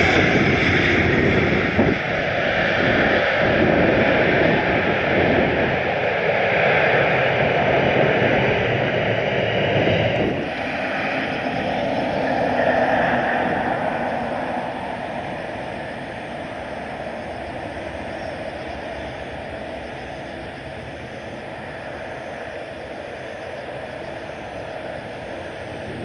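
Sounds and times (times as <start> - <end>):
airliner engines roaring: 0.0 - 26.0
wind noise on microphone: 0.0 - 26.0.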